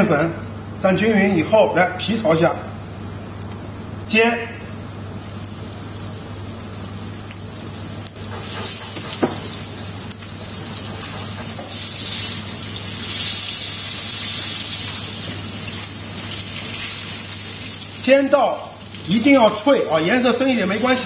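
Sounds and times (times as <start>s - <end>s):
chicken sizzling in hot oil: 2.8s - 21.0s.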